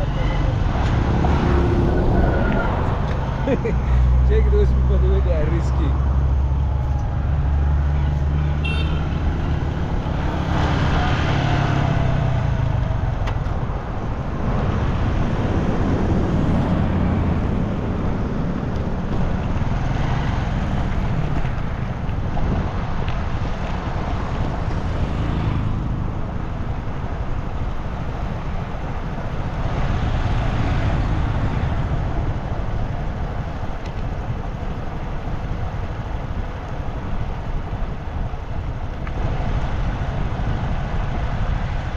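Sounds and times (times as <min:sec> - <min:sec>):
road noise: 0:00.0 - 0:41.9
vehicle engine drone: 0:00.0 - 0:41.9.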